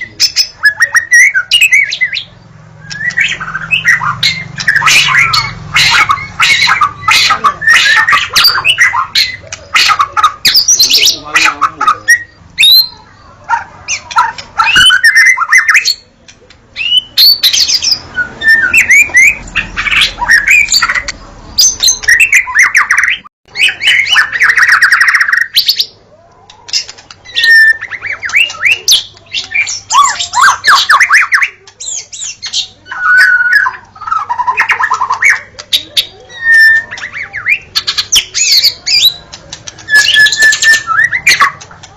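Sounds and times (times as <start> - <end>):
bird singing: 0.0 - 41.9.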